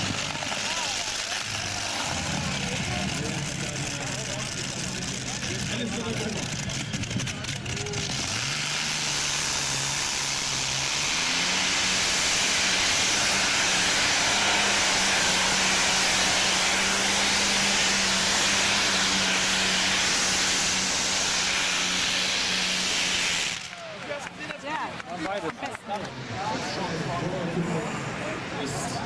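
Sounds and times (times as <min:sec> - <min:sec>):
loud engine running flat out: 0:00.0 - 0:24.6.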